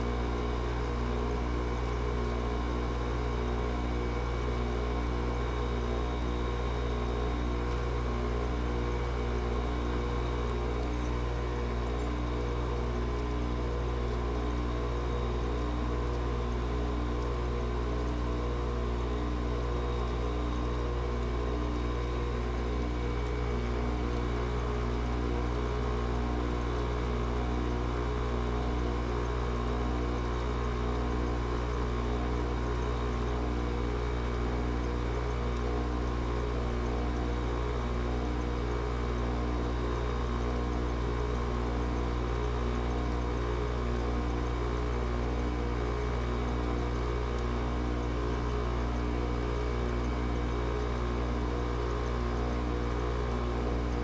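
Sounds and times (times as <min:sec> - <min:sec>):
air conditioner compressor hum: 0:00.0 - 0:54.0.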